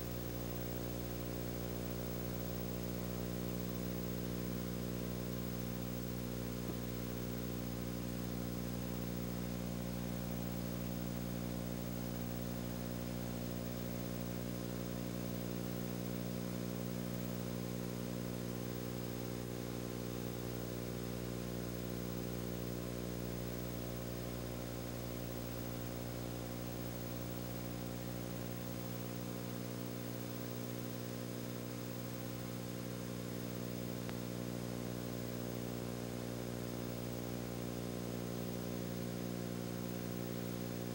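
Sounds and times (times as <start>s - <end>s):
steady low electrical hum: 0.0s - 40.9s.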